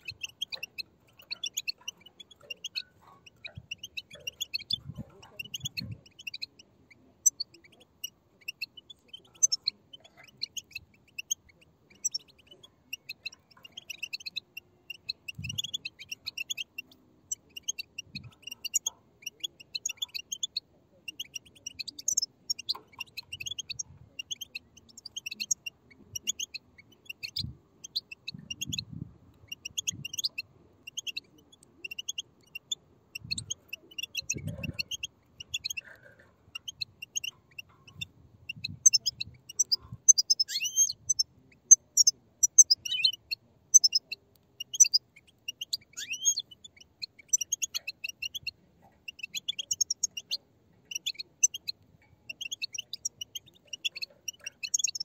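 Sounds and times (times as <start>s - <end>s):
young birds begging chirps: 0.0s - 55.0s.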